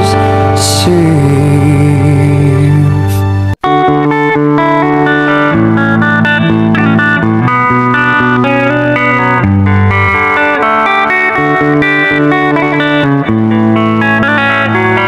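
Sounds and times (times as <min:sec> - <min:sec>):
plucked guitar melody: 0:00.0 - 0:15.0
sustained bass notes: 0:00.0 - 0:15.0.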